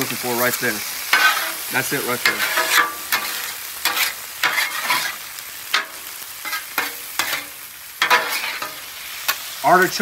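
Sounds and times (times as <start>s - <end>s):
vegetables sizzling: 0.0s - 10.0s
metal spatulas scraping griddle: 1.1s - 9.4s.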